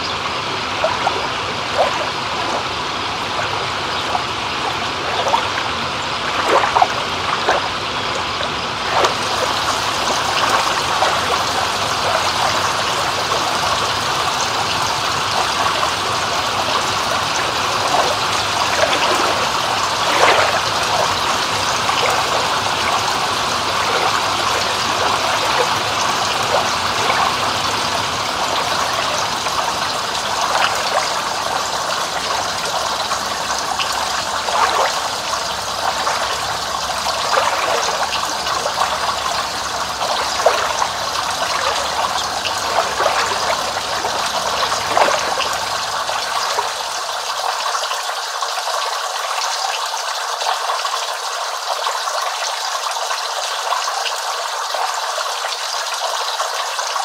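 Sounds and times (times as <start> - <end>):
water trickling: 0.0 - 48.2
water gurgles and splashes: 0.0 - 57.0.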